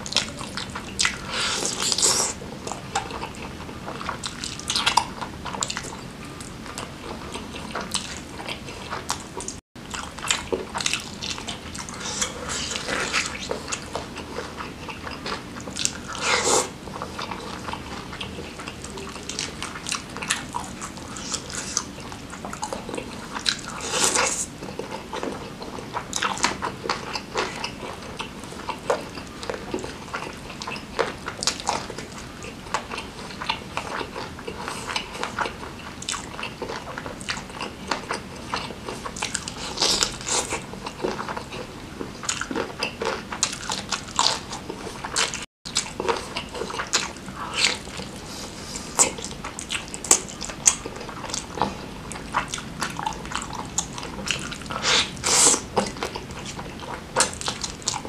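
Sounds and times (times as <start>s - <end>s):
chewing and biting: 0.0s - 58.0s.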